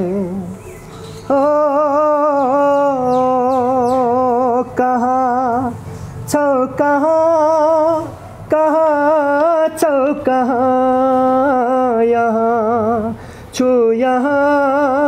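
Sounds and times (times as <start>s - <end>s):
man singing slow love song: 0.0s - 15.0s.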